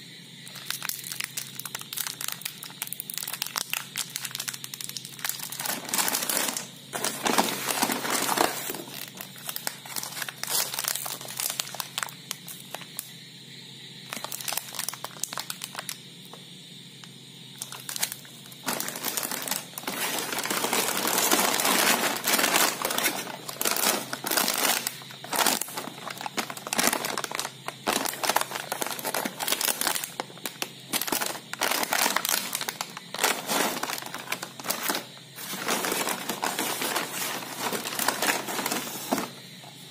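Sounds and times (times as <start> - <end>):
plastic wrappers crackling: 0.5 - 13.0, 14.1 - 16.0, 17.6 - 39.4.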